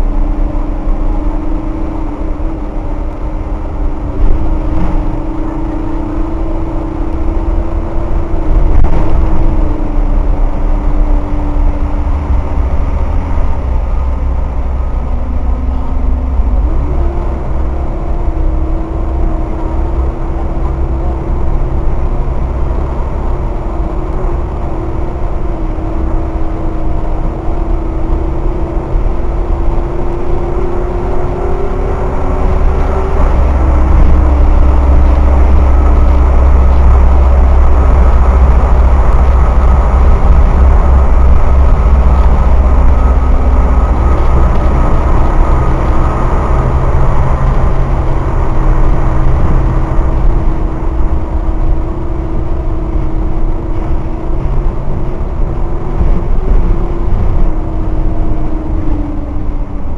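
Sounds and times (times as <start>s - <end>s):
bus engine rumbling: 0.0s - 59.9s
gearbox whine: 0.0s - 59.9s.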